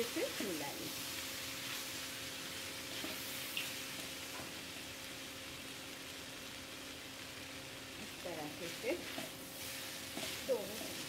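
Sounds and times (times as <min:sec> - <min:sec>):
noodles sizzling in a pan: 0:00.0 - 0:11.0.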